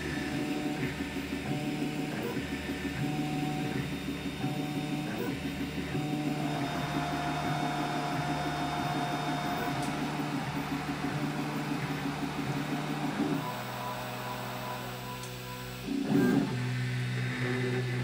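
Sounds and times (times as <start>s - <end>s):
cooling fans hissing: 0.0s - 18.0s.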